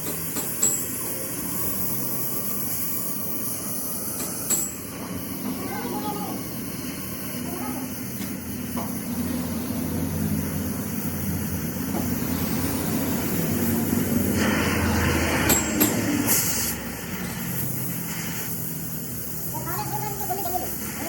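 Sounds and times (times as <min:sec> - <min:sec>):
hissing: 0:01.3 - 0:21.0.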